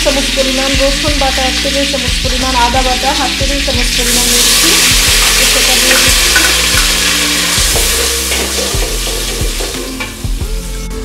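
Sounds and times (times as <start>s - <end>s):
paste sizzling in hot oil: 0.0s - 10.7s.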